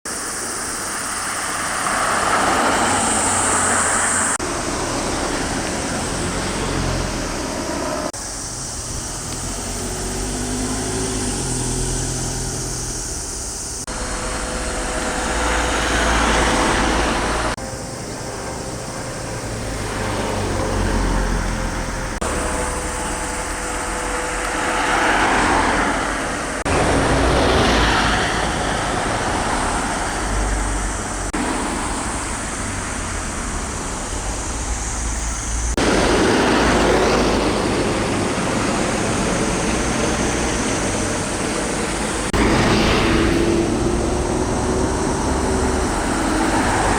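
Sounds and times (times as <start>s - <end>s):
cars driving past: 0.2s - 46.9s.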